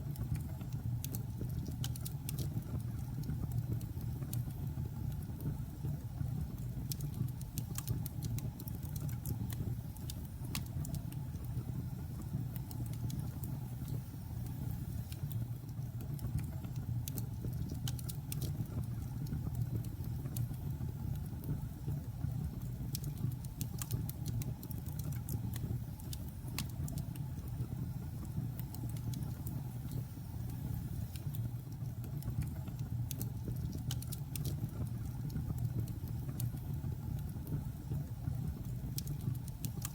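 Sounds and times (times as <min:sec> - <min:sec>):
fire crackling and popping: 0:00.0 - 0:39.9
fire rumbling in a fireplace: 0:00.0 - 0:39.9.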